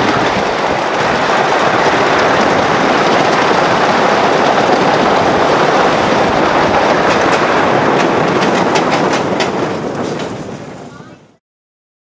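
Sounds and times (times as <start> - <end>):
roller coaster rattling rumble: 0.0 - 11.4.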